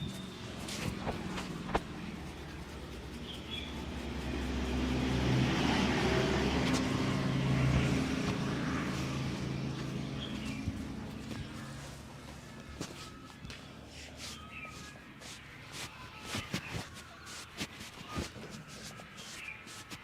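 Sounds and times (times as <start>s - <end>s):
motor vehicle passing: 0.0s - 16.4s.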